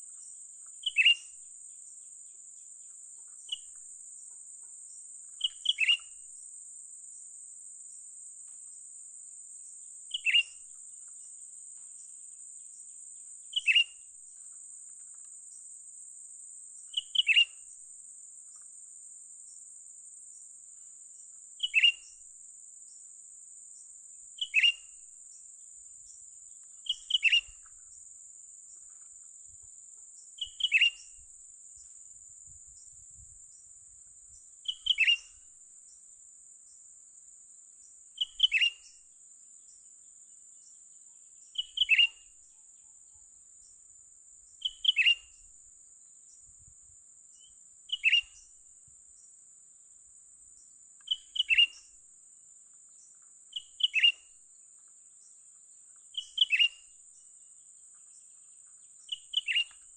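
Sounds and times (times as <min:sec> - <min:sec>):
high-pitched insect hiss: 0:00.0 - 0:59.9.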